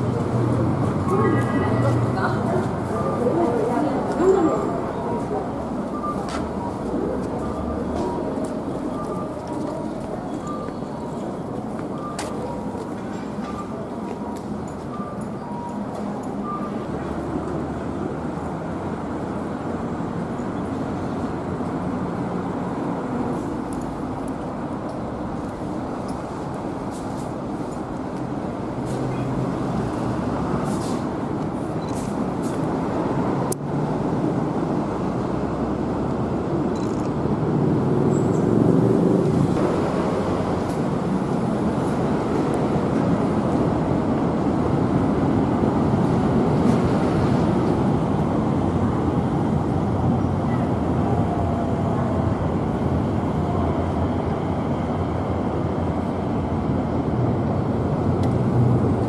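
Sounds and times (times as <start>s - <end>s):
rumble of passing vehicles: 0.0s - 59.0s.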